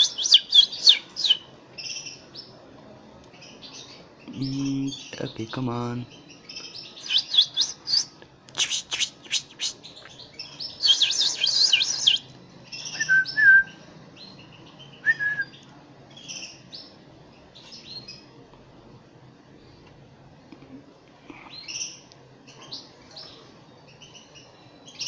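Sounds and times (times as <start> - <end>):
bird chicks cheeping: 0.0 - 2.6, 3.4 - 18.3, 21.4 - 25.0.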